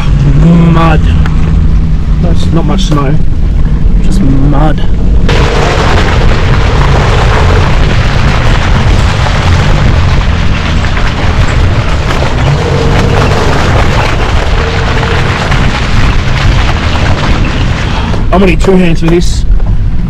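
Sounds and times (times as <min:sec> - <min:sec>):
vehicle engine and tyre noise: 0:00.0 - 0:20.0
wind buffeting microphone: 0:01.0 - 0:20.0.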